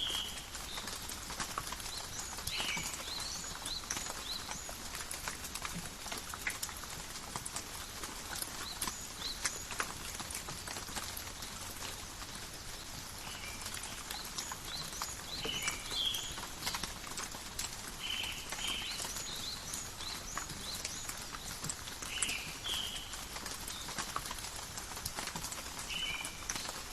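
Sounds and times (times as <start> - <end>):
rain falling in forest: 0.0 - 26.9
raindrops ticking: 0.0 - 26.9.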